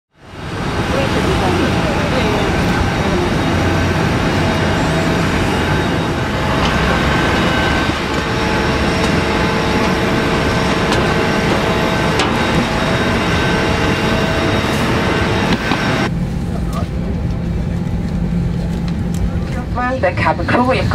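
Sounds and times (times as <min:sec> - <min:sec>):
airliner cabin roar: 0:00.1 - 0:20.9
steady whining tones: 0:00.1 - 0:20.9.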